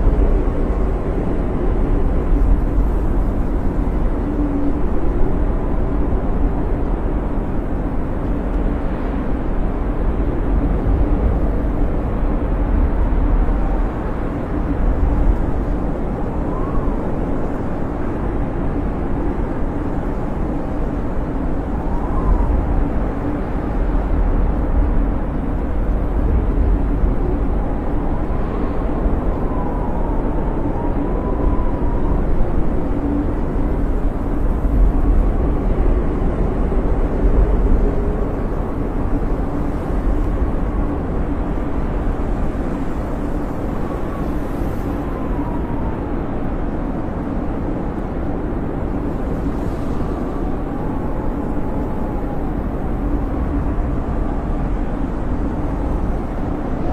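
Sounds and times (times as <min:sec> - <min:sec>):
wind howling: 0:00.0 - 0:56.9.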